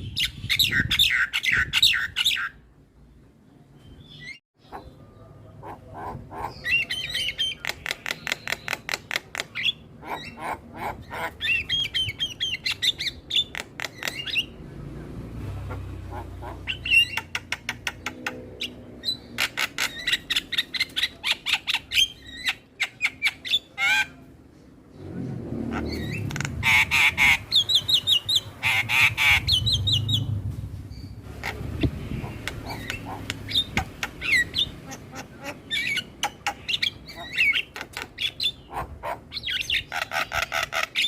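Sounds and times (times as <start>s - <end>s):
bird chattering and whistling: 4.0s - 14.6s, 16.1s - 24.2s, 25.8s - 30.3s, 30.9s - 41.0s.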